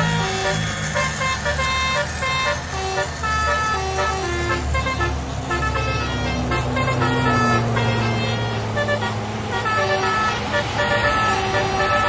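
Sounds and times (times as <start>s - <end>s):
toy train motor hum: 0.0s - 7.8s, 8.7s - 12.0s
toy train electronic tune: 0.0s - 12.0s.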